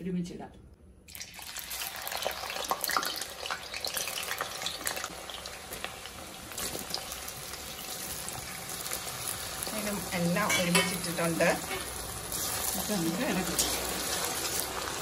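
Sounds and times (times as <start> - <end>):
plantain deep-frying in oil: 1.1 - 15.0.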